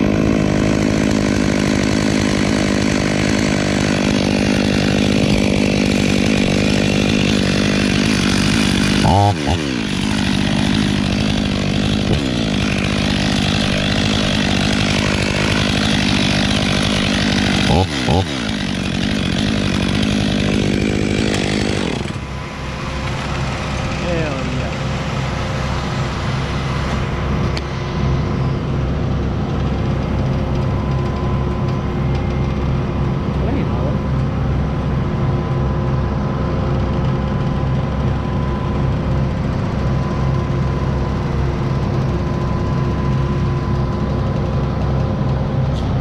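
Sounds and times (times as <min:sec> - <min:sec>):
chainsaw engine running: 0:00.0 - 0:46.0.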